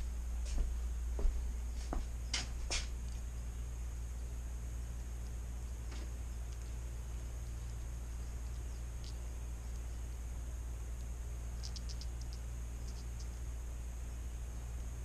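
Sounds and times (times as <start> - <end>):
steady low hum: 0.0 - 15.0
crickets chirping: 0.9 - 15.0.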